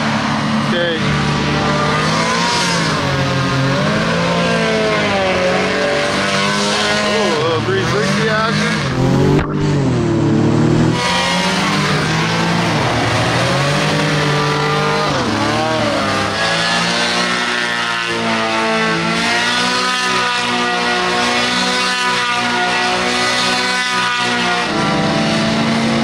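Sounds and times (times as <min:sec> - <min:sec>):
hovercraft engine revving: 0:00.0 - 0:26.0.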